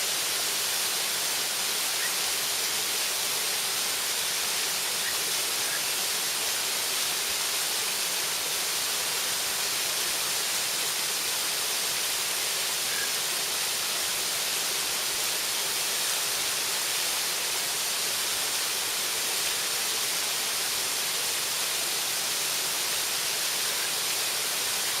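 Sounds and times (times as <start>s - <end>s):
waterfall hissing: 0.0s - 25.0s.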